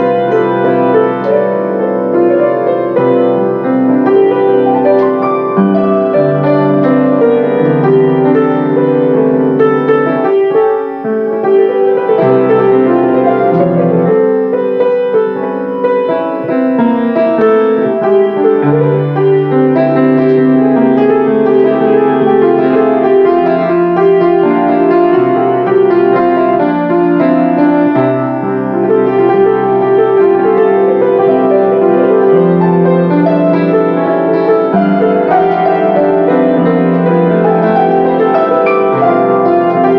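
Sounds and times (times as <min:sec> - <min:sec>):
slow grand piano piece: 0:00.0 - 0:39.9.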